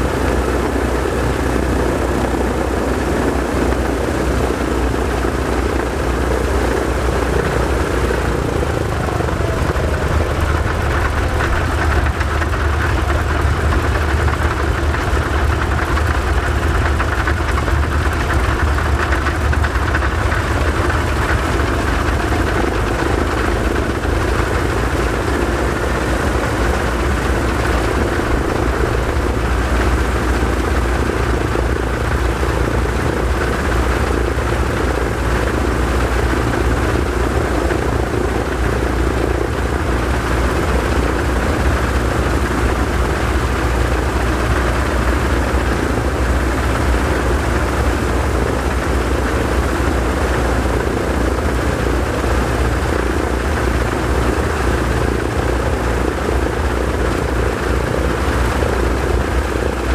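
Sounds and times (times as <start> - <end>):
radial aircraft engines running: 0.0 - 59.9.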